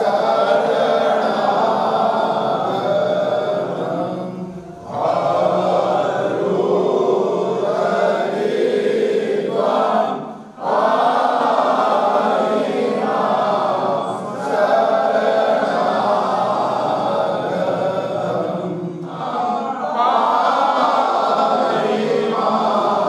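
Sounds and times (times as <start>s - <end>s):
group chanting a hymn: 0.0s - 23.0s.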